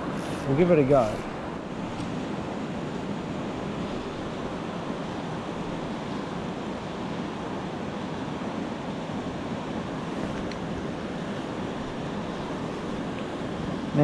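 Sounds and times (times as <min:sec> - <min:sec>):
river water rushing over stones: 0:00.0 - 0:14.0.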